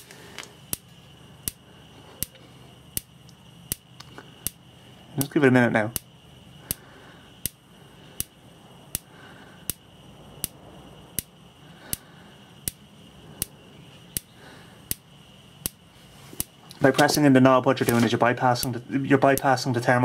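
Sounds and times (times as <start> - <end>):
spark igniter ticking: 0.0 - 20.0.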